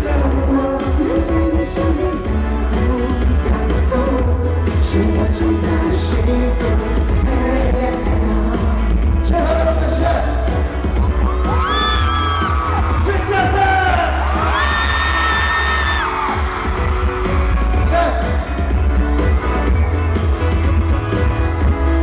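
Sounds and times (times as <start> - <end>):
heavy bass and drum beat: 0.0 - 22.0
live pop music with singing: 0.0 - 22.0.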